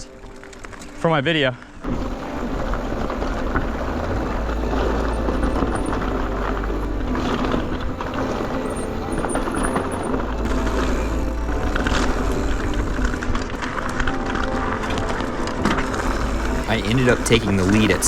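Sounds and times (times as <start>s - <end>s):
bike rattle and tyre noise: 0.0s - 18.0s.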